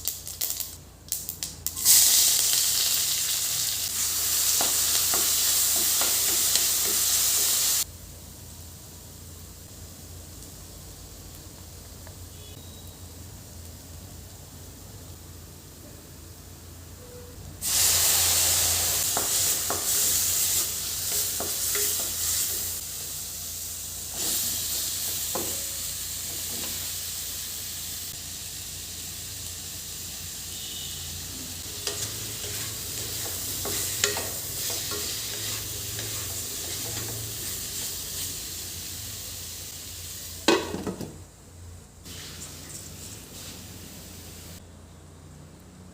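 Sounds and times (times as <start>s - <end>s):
food sizzling in hot oil: 0.0s - 15.7s, 17.6s - 40.9s, 42.0s - 44.6s.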